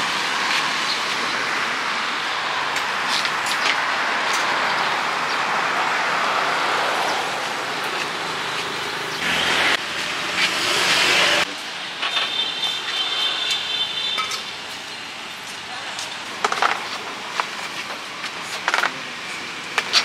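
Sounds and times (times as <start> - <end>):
vehicles passing: 0.0 - 20.0.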